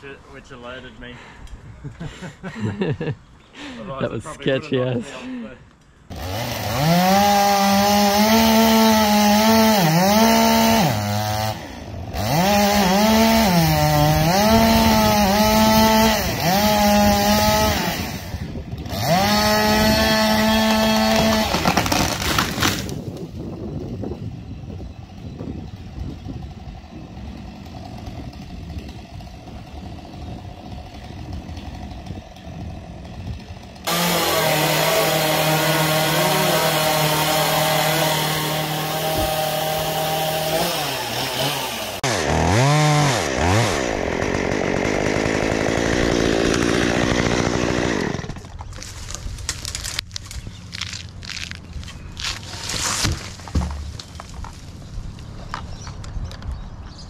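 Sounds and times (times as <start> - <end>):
chainsaw running and revving: 6.1 - 54.7.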